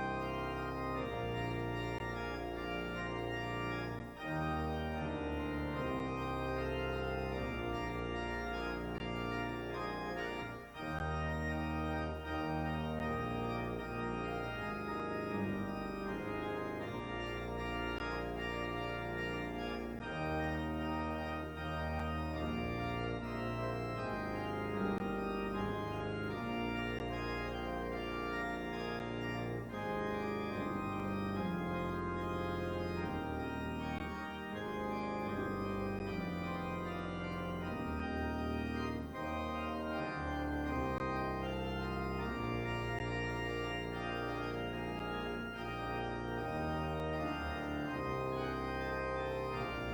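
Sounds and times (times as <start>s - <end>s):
organ playing chords: 0.0s - 49.9s.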